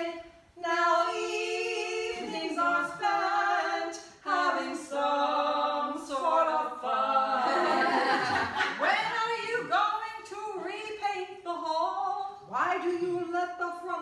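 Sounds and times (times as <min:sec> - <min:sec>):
women singing unaccompanied: 0:00.0 - 0:14.0.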